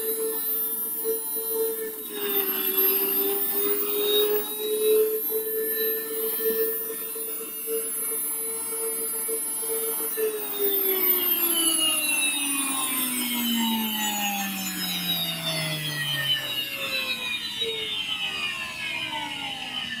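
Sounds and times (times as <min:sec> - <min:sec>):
grain mill motor whine spinning down: 0:00.0 - 0:20.0.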